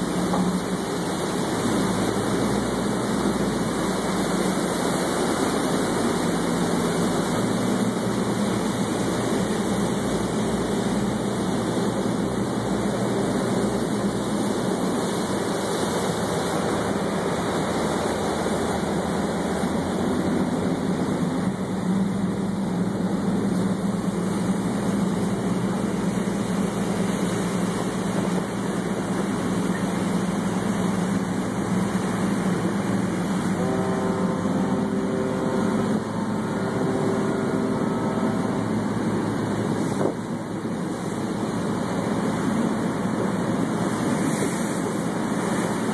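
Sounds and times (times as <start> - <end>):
boat engine running: 0.0 - 45.9
water rushing along hull: 0.0 - 45.9.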